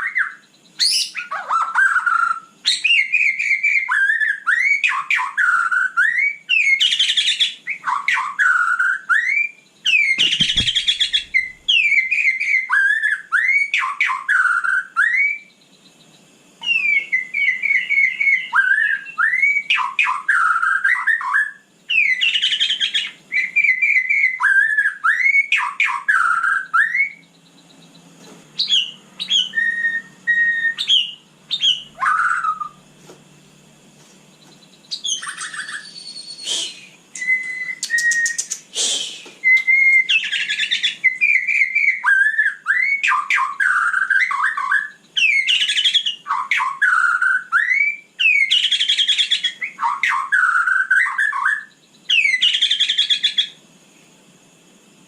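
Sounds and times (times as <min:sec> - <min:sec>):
bird singing whistled phrases: 0:00.0 - 0:15.6, 0:16.6 - 0:27.3, 0:28.6 - 0:32.8, 0:34.8 - 0:53.6.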